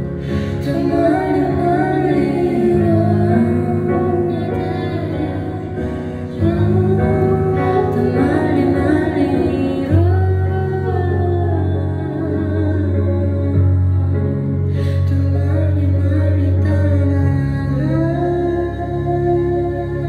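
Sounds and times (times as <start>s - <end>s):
sustained low instrumental chords: 0.0s - 20.0s
woman singing into microphone: 0.2s - 20.0s.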